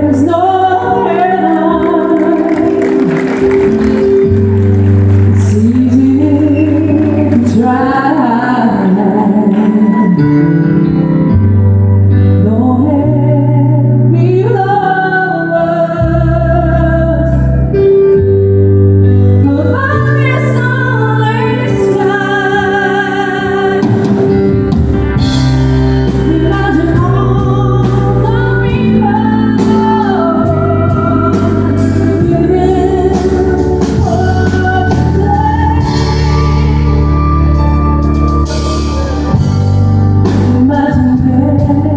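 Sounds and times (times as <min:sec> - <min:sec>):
woman singing into microphone: 0:00.0 - 0:03.5, 0:05.3 - 0:11.4, 0:12.2 - 0:18.2, 0:19.4 - 0:24.5, 0:26.0 - 0:37.8, 0:40.3 - 0:41.9
electric keyboard chords: 0:00.0 - 0:41.9.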